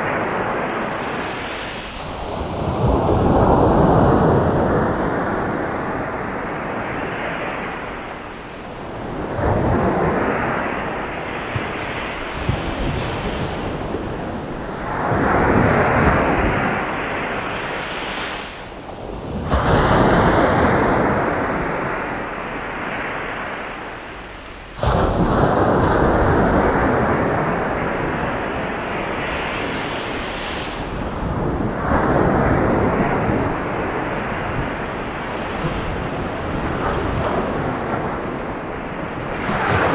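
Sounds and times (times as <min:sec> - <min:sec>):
waves breaking on beach: 0:00.0 - 0:39.9
wind rumble on microphone: 0:00.0 - 0:39.9.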